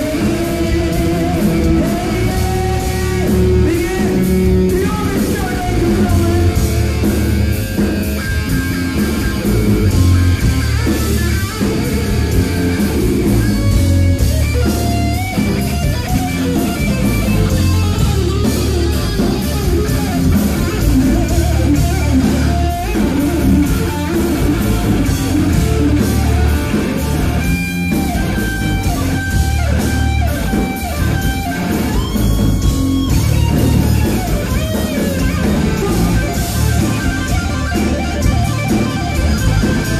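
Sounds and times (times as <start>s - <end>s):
hard rock band playing live: 0.0s - 39.9s.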